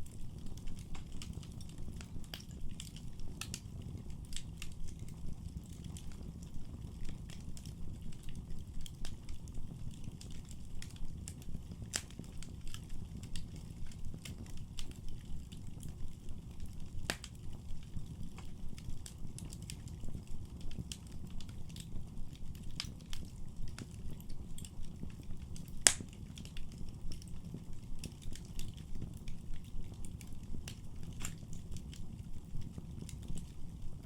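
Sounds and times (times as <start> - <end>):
low rumble of flames: 0.0 - 34.0
wood fire crackling and popping: 0.0 - 34.0.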